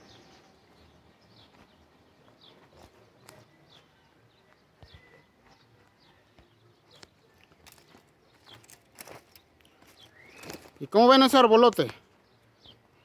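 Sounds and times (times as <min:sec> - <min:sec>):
small bird chirping: 0:00.0 - 0:10.8.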